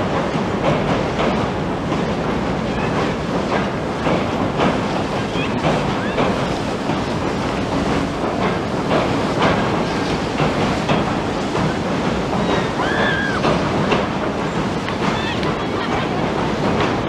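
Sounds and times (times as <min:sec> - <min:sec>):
train rumbling over bridge: 0:00.0 - 0:17.0
train wheels clacking: 0:00.0 - 0:17.0.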